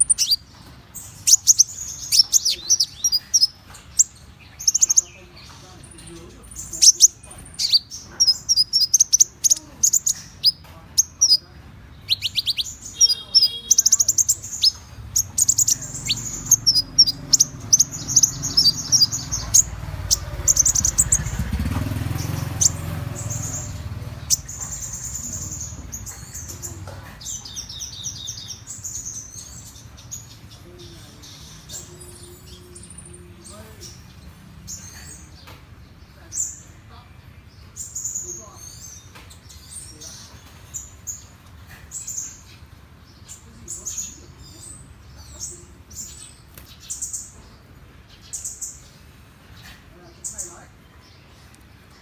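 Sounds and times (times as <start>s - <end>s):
bird chirps and trills: 0.0s - 52.0s.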